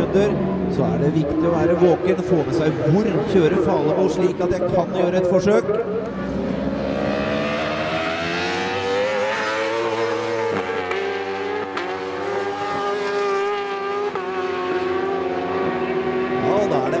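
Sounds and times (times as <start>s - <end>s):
motorbike engines revving high: 0.0s - 17.0s.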